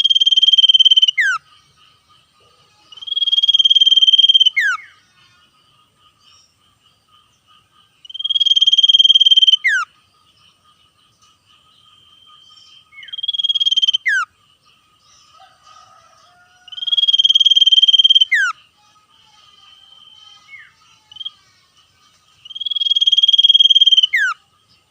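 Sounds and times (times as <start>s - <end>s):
bird singing fast trills: 0.0s - 24.9s
faint steady high tones: 0.0s - 24.9s.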